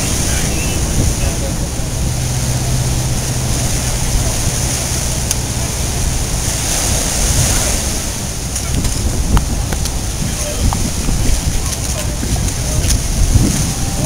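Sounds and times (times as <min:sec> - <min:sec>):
surf breaking over rocks: 0:00.0 - 0:14.0
wind buffeting microphone: 0:00.0 - 0:14.0.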